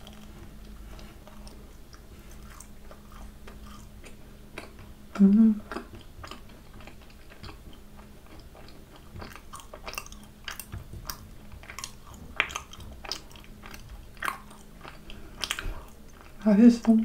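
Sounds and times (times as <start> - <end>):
wet chewing mouth clicks: 0.0 - 16.4.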